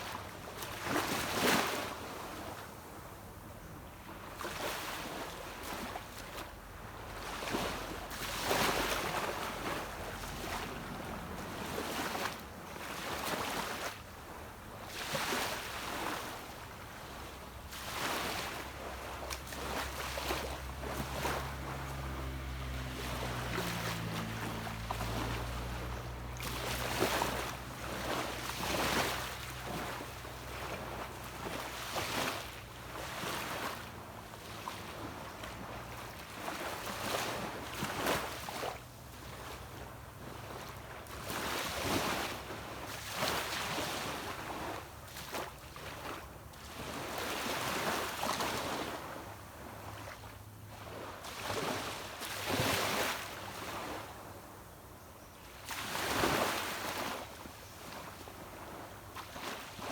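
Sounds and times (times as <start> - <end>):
small waves washing onto beach: 0.0 - 59.9
distant motorboat engine hum: 0.1 - 59.9.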